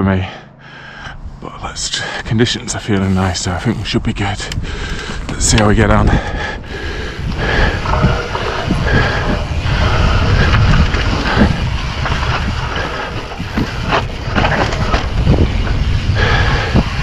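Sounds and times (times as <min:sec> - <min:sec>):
wind buffeting microphone: 0:00.8 - 0:17.0
mountain bike rumbling and rattling: 0:01.7 - 0:17.0.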